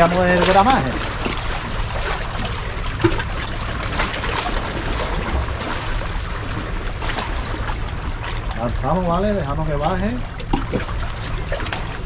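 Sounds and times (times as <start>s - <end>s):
sea waves splashing on shore: 0.0s - 12.0s.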